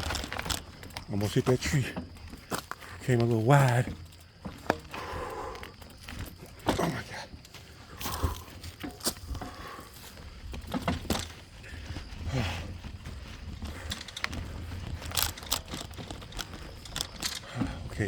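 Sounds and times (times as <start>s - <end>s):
bicycle clicks and rattles: 0.0s - 18.0s.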